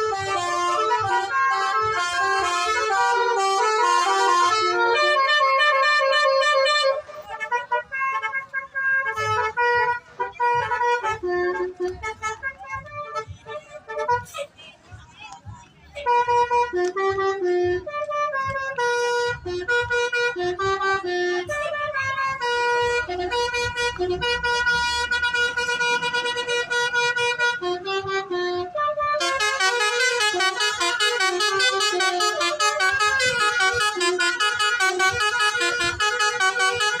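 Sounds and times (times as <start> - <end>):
multi-tone bus horn melody: 0.0 - 15.4, 16.0 - 37.0.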